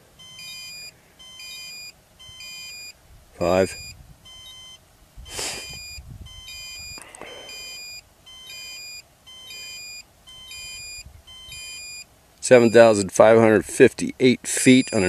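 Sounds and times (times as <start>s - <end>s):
high electronic beeps: 0.2s - 12.9s, 14.6s - 15.0s.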